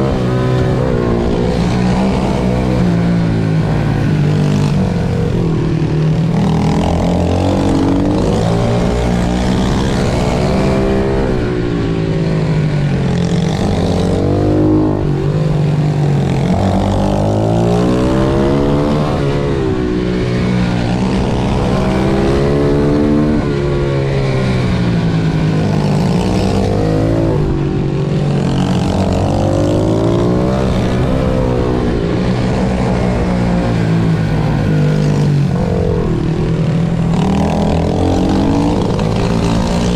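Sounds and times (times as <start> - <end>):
pit bike engines revving: 0.0 - 39.9
steady engine drone: 0.0 - 39.9.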